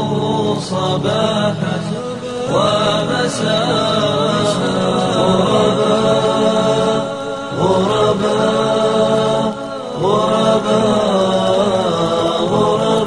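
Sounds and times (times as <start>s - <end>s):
men singing a cappella: 0.0s - 13.0s.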